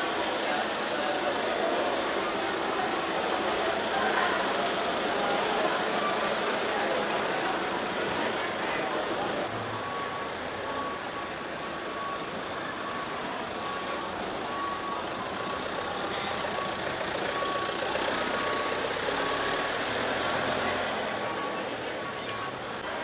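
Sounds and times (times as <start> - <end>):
reversing alarm beeping: 0.0 - 23.0
street traffic noise: 0.0 - 23.0
vehicle engines running: 0.0 - 23.0.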